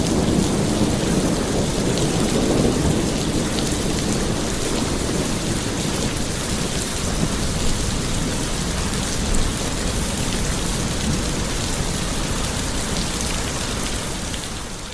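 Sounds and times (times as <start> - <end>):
heavy rain: 0.0 - 14.9.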